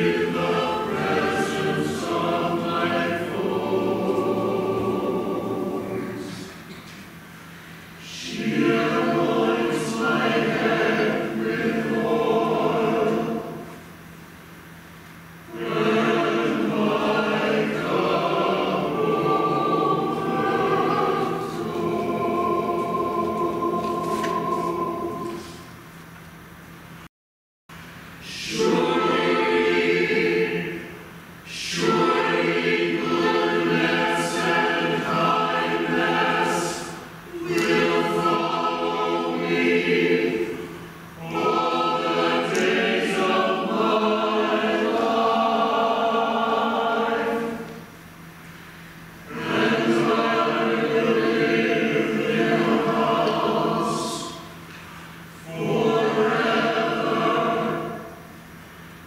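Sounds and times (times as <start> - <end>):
choir singing a cappella: 0.0 - 6.8, 8.0 - 13.9, 15.4 - 25.8, 28.2 - 48.0, 49.0 - 58.7.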